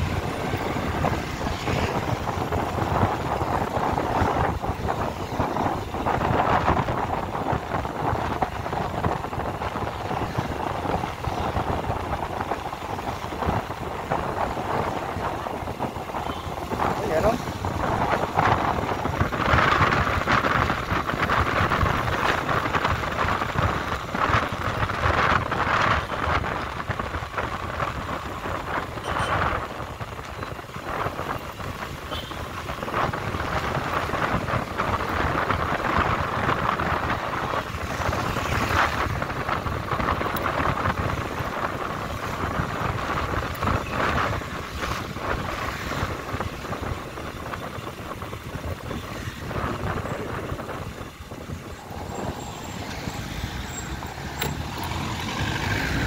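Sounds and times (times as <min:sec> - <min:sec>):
motorbike engine and road noise: 0:00.0 - 0:56.0
wind rushing on microphone: 0:00.0 - 0:56.0.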